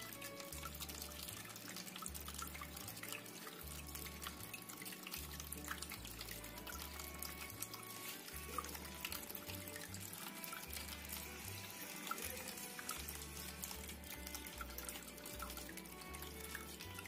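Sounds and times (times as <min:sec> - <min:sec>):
low background music: 0:00.0 - 0:17.0
water trickling into a basin: 0:00.0 - 0:17.0.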